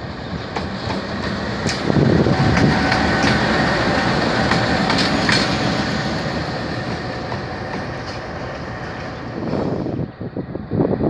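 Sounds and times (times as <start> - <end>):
locomotive engine and wheels rumbling: 0.0 - 11.0.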